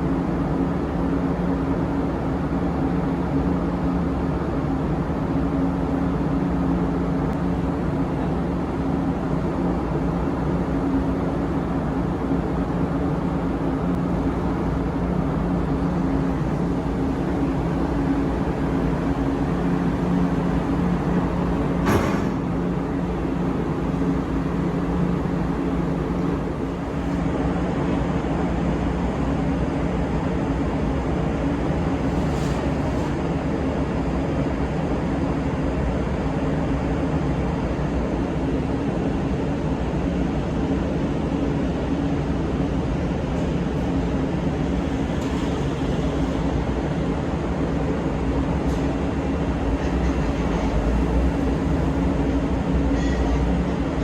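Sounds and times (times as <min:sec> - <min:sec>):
ship engines droning: 0:00.0 - 0:54.0.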